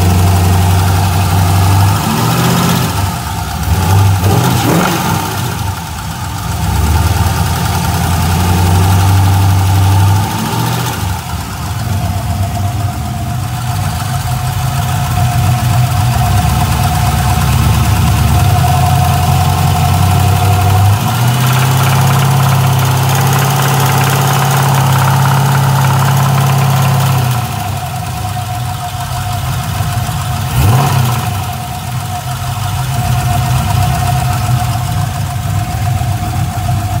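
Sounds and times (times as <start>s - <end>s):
engine idling and revving: 0.0s - 37.0s.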